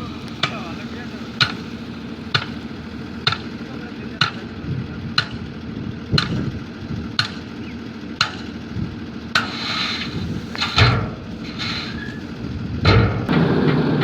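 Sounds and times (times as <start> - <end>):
dump truck diesel engine running: 0.0 - 14.0.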